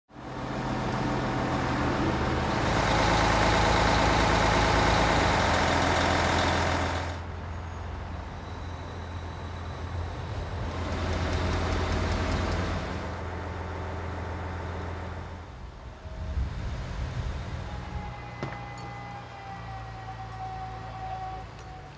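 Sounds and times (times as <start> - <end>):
diesel engine running: 0.2 - 7.8, 10.6 - 21.9.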